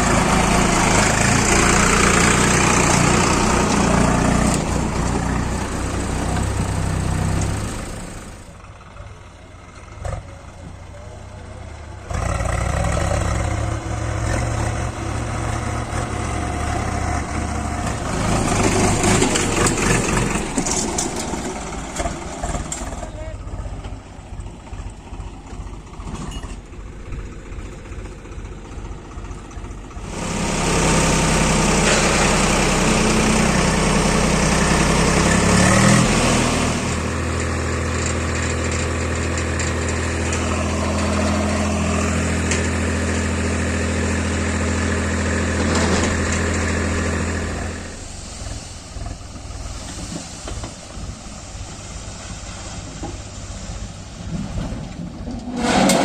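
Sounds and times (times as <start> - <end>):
diesel machinery engine revving: 0.0 - 56.0.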